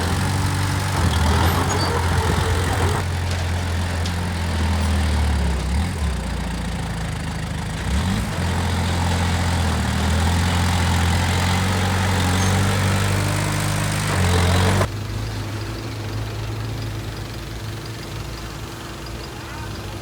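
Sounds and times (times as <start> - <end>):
construction machine diesel engine: 0.0 - 20.0.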